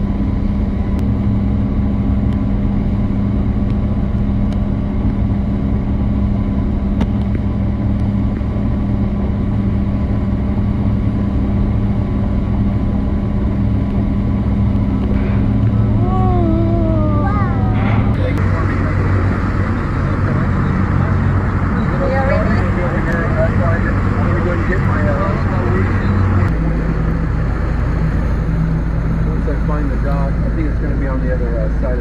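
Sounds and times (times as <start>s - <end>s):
motorboat engine droning: 0.0s - 32.0s.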